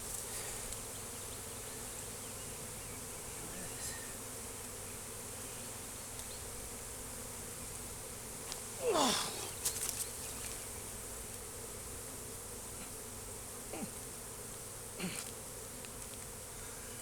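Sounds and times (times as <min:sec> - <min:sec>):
honeybees buzzing: 0:00.0 - 0:17.0
single bee buzzing past: 0:00.0 - 0:17.0.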